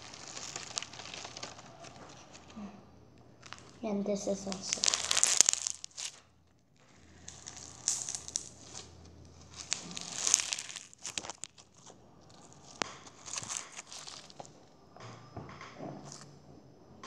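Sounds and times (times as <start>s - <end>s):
slime crackling and popping: 0.0s - 16.3s.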